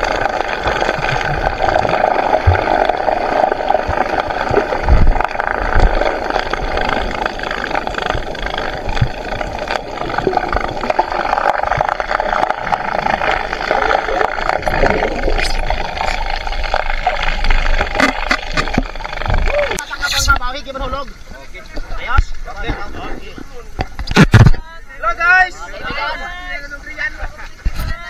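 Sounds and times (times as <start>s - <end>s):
underwater rushing hum: 0.0s - 24.5s.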